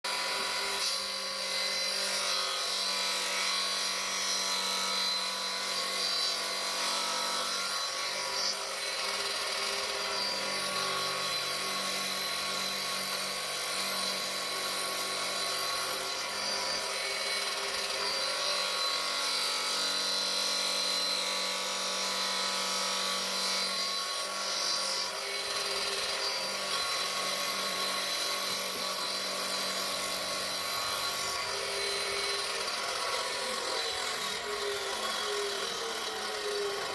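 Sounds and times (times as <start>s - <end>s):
power tool whining: 0.1s - 36.9s.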